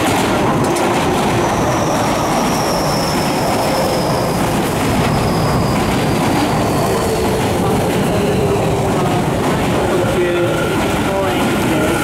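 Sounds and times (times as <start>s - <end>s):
train running gear rumble: 0.0s - 12.0s.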